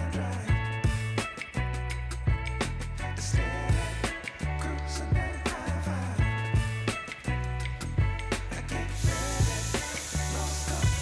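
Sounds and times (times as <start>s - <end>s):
funk drum beat with bass line: 0.0s - 11.0s.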